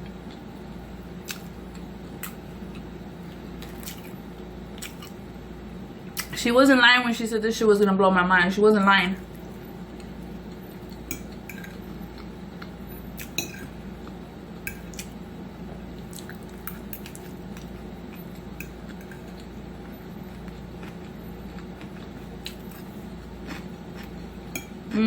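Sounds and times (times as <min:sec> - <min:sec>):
soft eating sounds: 0:00.0 - 0:06.5, 0:08.8 - 0:25.0
steady low hum: 0:00.0 - 0:25.0.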